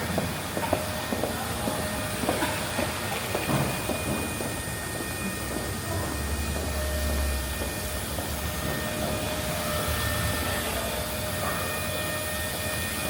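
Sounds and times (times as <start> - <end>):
faint steady hums: 0.0 - 13.0.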